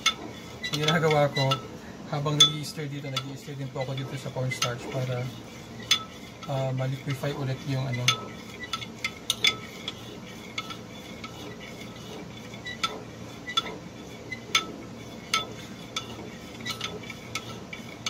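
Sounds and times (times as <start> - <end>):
low steady hum: 0.0 - 18.0
utensil scraping and clinking pot: 0.0 - 18.0.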